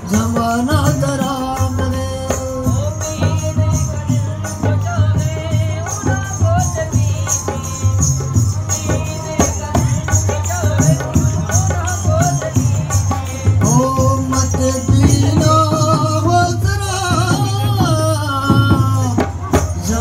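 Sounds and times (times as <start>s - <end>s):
hand drum with jingles: 0.0s - 20.0s
string instrument melody: 0.0s - 20.0s.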